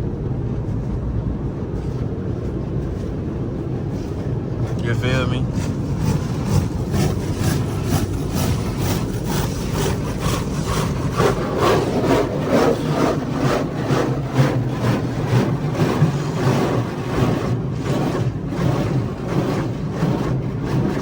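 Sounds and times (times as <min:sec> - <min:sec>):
car wash machinery hum: 0:00.0 - 0:21.0
rhythmic brush swishing: 0:03.8 - 0:21.0.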